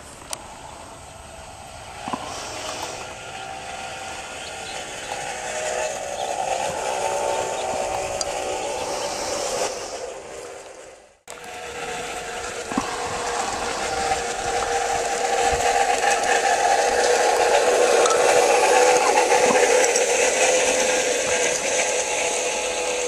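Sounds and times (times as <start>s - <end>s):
model train motor whirring: 0.0s - 23.0s.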